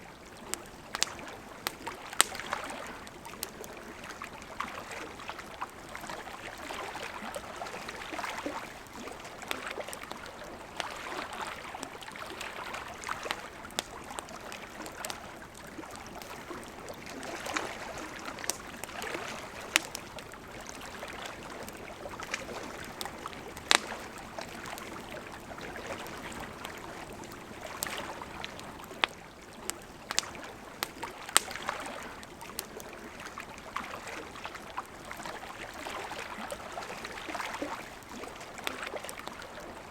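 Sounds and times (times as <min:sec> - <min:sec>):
lake waves lapping at shore: 0:00.0 - 0:39.9
campfire crackling and popping: 0:00.2 - 0:39.9.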